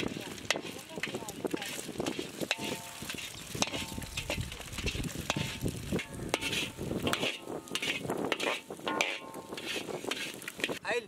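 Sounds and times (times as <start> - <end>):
metal skimmer scraping a pan: 0.0 - 10.8
eggs sizzling in oil: 0.0 - 10.9.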